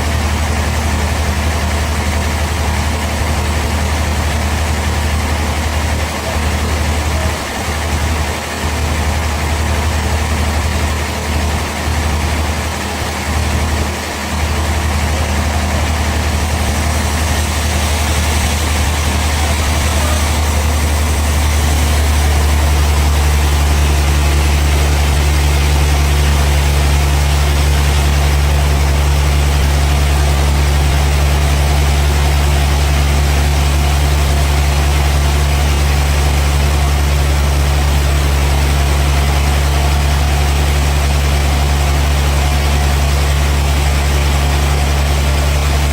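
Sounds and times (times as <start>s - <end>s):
large engine droning: 0.0s - 45.9s.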